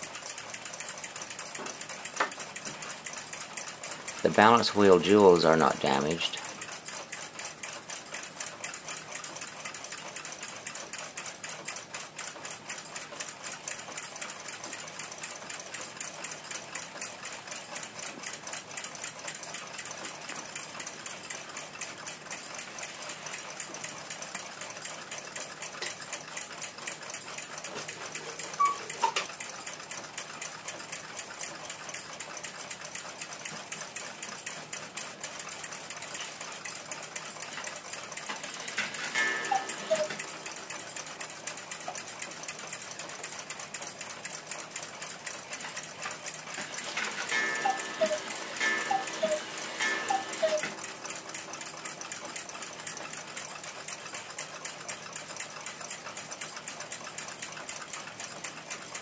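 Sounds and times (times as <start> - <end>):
fast mechanical ticking: 0.0 - 59.0.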